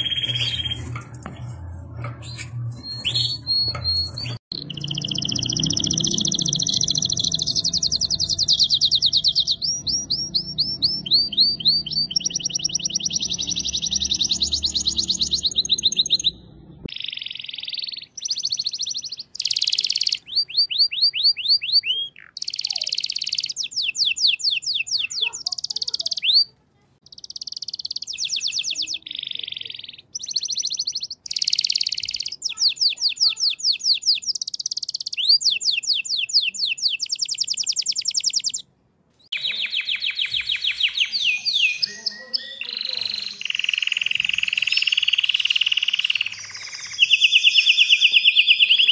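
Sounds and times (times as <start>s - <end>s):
canaries singing trills: 0.0s - 48.9s.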